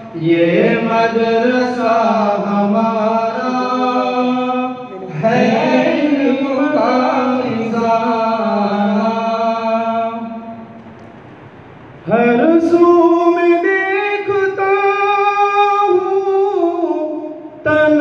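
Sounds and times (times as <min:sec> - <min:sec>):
man singing devotional song: 0:00.0 - 0:10.6, 0:12.0 - 0:18.0.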